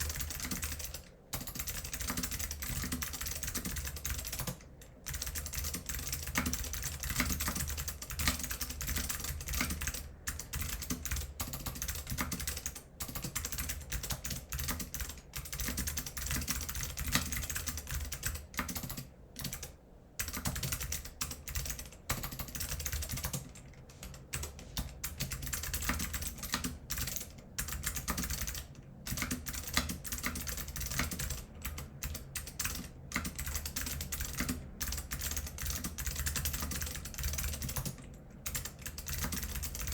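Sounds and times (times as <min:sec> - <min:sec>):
fast typing on clicky keyboard: 0:00.0 - 0:39.9.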